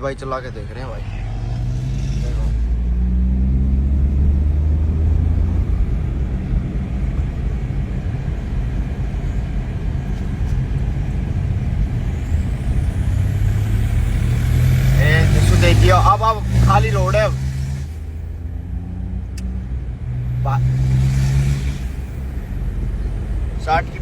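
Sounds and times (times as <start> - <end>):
low engine drone: 0.0 - 24.0
road and wind rumble: 0.0 - 24.0.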